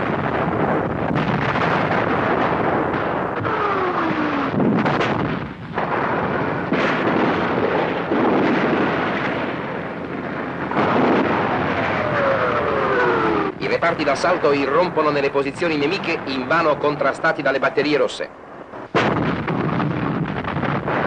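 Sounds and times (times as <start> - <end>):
continuous gunfire: 0.0 - 21.0
shell explosions: 0.0 - 21.0.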